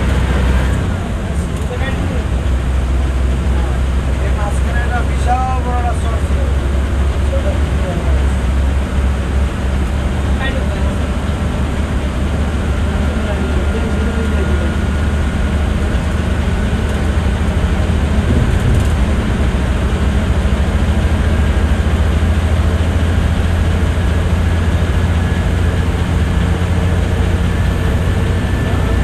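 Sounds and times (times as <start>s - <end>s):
tyre road noise: 0.0s - 29.0s
vehicle engine rumble: 0.0s - 29.0s.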